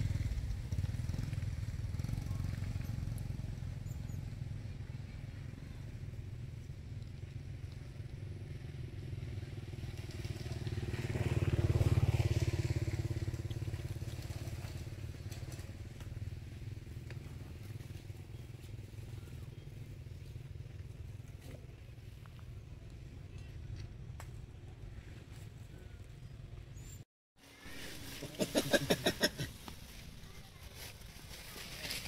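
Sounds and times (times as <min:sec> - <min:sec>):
passing engine rumble: 0:00.0 - 0:26.8.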